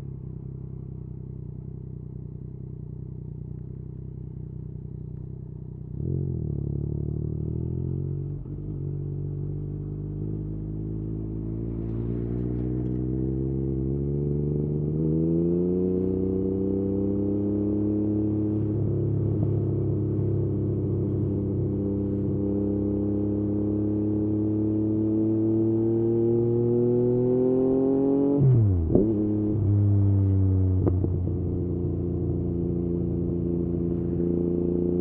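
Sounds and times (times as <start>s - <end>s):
motorcycle engine revving: 2.5s - 35.0s.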